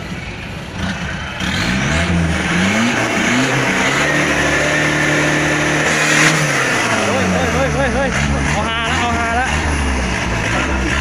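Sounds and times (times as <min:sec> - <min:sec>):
diesel engine accelerating hard: 0:00.0 - 0:11.0.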